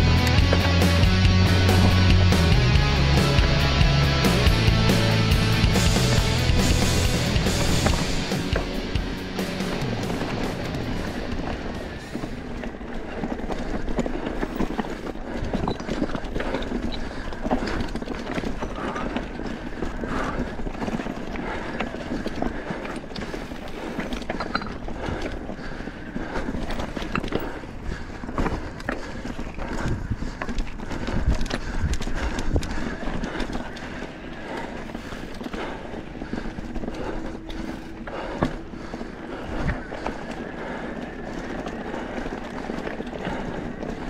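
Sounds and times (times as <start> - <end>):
bike rattling and clattering: 0.0 - 44.0
bike tyres crunching over rocks: 0.0 - 44.0.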